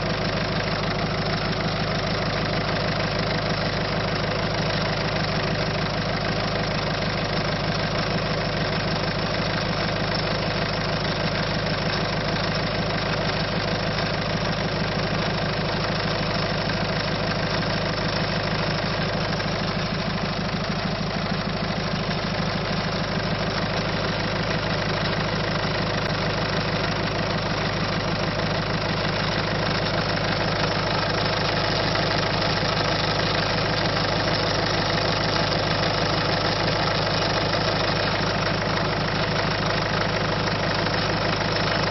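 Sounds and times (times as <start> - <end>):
diesel car engine idling: 0.0 - 41.9.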